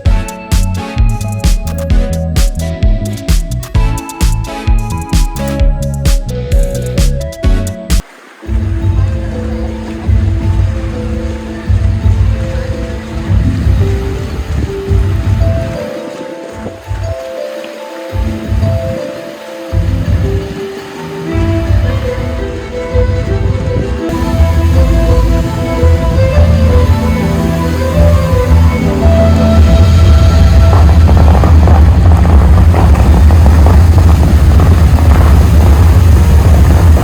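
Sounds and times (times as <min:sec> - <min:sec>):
deep pulsing bass line: 0:00.0 - 0:15.8, 0:21.4 - 0:37.0
upbeat electronic music: 0:00.0 - 0:34.1
held melody notes: 0:00.0 - 0:35.4.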